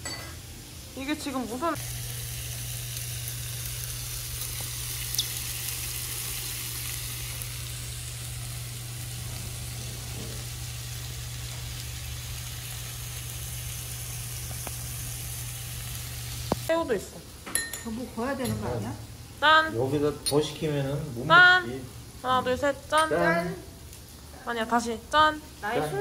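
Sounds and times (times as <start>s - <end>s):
food sizzling on grill pan: 0.5s - 26.0s.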